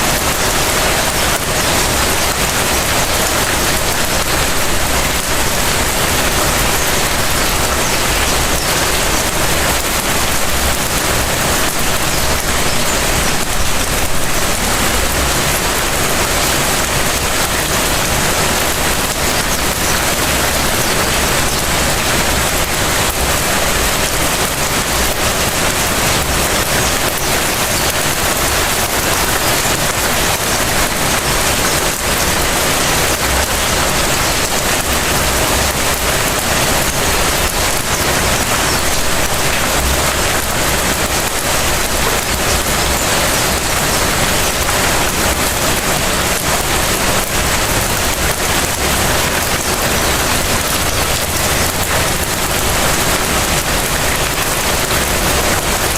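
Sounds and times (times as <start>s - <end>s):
raindrop ticks: 0.0s - 55.9s.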